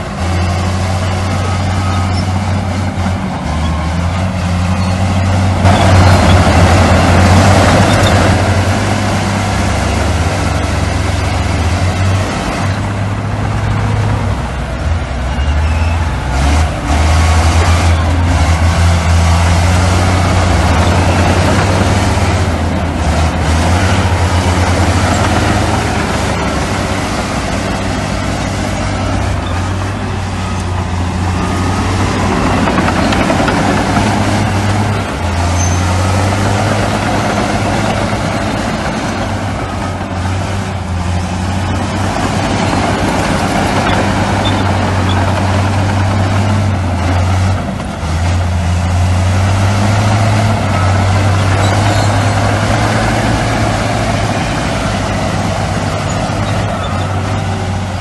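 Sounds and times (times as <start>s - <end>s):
heavy diesel machinery drone: 0.0s - 58.0s.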